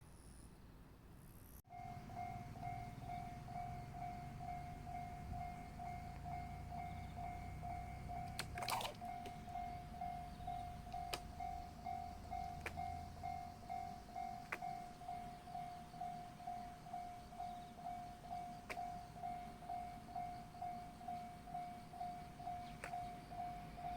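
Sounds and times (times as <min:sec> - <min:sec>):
steady pulsing tone: 0:01.7 - 0:08.4, 0:09.0 - 0:23.9.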